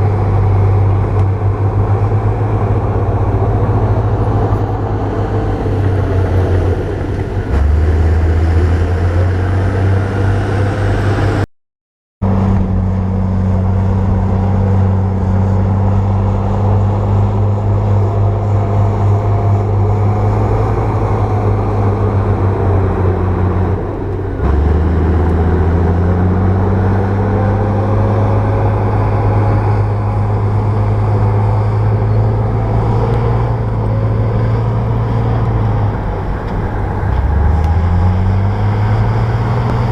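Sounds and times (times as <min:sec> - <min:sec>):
bulldozer diesel engine running: 0:00.0 - 0:11.4, 0:12.2 - 0:39.9.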